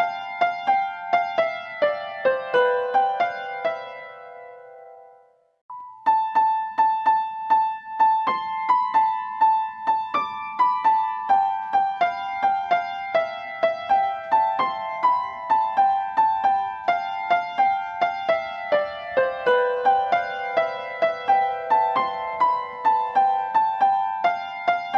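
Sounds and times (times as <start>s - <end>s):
piano melody: 0.0s - 24.9s.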